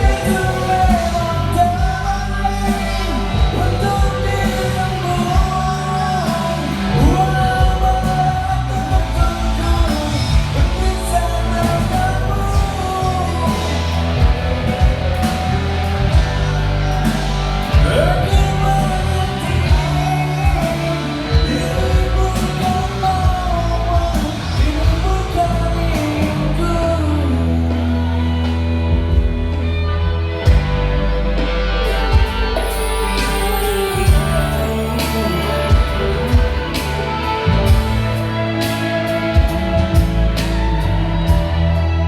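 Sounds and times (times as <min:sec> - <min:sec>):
live rock band playing: 0:00.0 - 0:42.0
person singing: 0:00.0 - 0:42.0.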